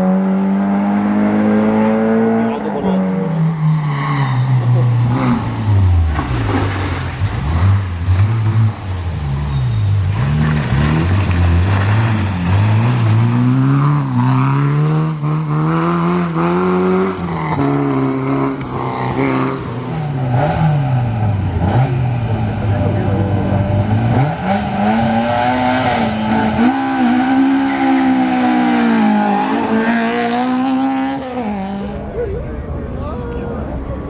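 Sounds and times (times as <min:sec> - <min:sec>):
rally car engine accelerating: 0:00.0 - 0:34.0.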